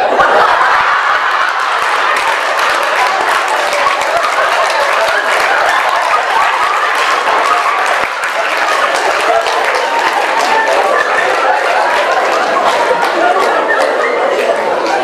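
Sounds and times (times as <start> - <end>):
audience applauding: 0.0 - 15.0
voices: 0.0 - 15.0.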